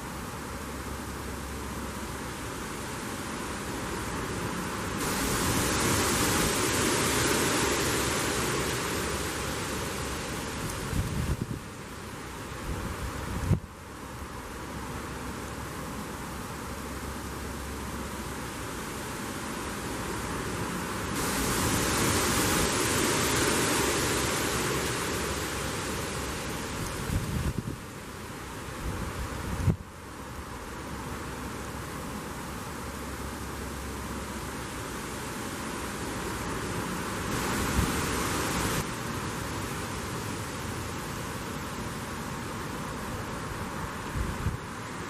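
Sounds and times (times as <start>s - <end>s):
leaves rustling: 0.0s - 45.0s
wind gusting through trees: 0.0s - 45.0s.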